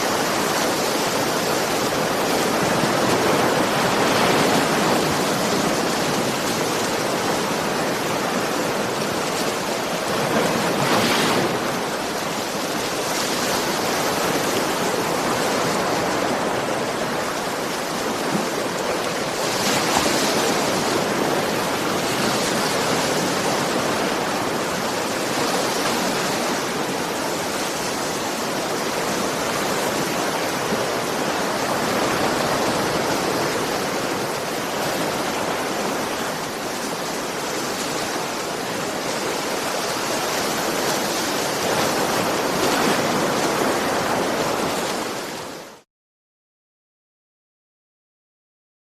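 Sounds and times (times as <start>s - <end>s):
ocean waves breaking on shore: 0.0s - 45.8s.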